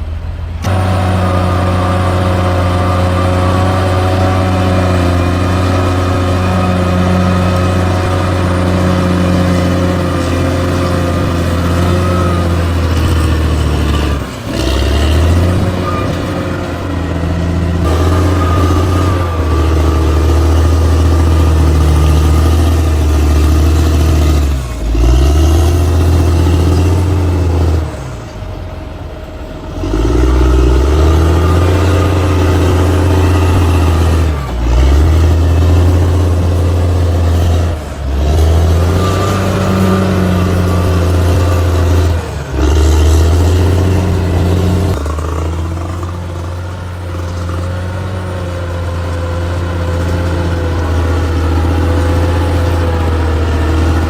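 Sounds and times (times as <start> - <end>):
diesel engine running loudly: 0.0 - 54.0.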